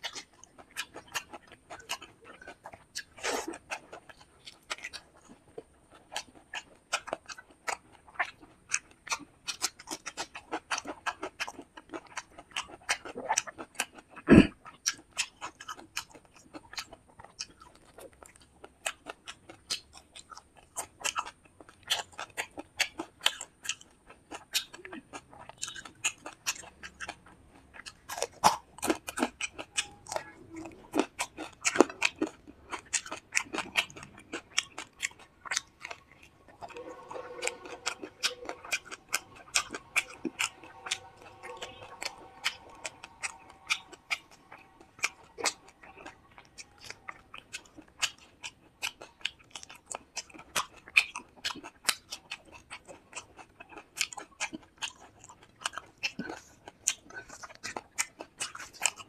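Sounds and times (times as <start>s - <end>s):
wet chewing and lip smacks: 0.0s - 59.0s.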